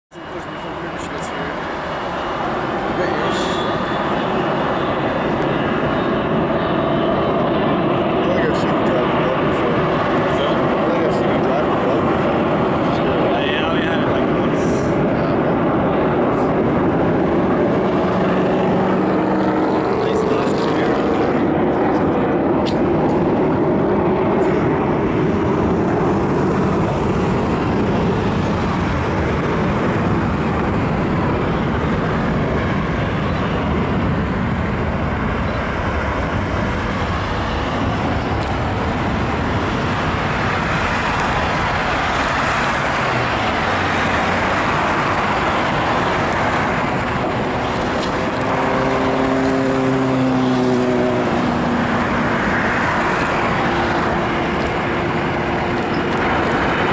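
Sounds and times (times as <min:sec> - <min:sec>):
jet engines of approaching airplane: 0:00.1 - 0:56.9
road traffic roar: 0:00.1 - 0:56.9.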